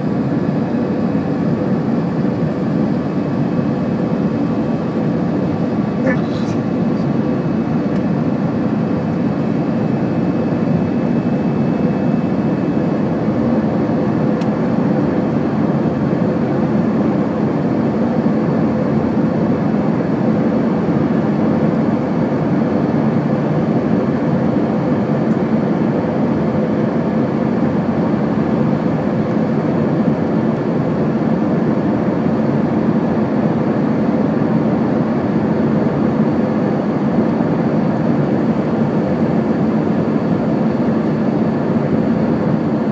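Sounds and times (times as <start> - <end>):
airliner cabin engine noise: 0.0 - 42.9.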